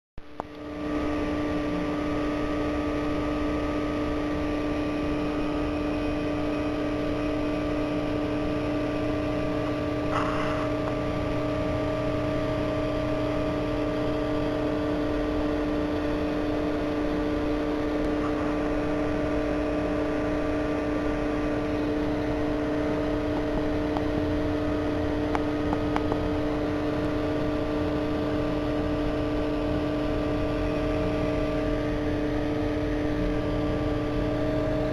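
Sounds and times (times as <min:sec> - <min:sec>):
aquarium pump humming: 0:00.2 - 0:34.9.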